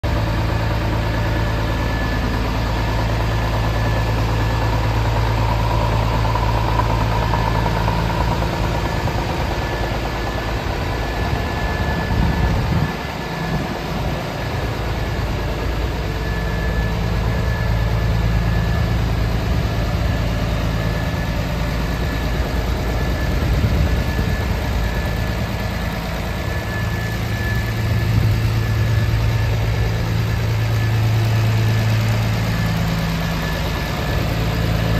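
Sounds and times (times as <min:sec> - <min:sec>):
truck diesel engine idling: 0:00.0 - 0:34.9.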